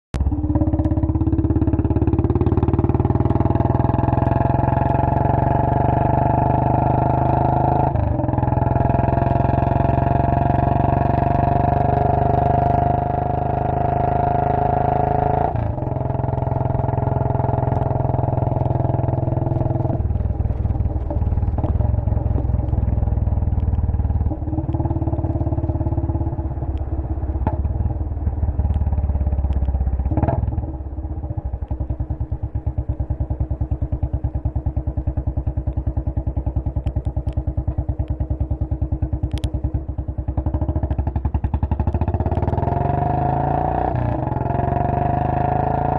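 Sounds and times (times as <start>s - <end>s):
motorcycle engine running: 0.2s - 45.9s.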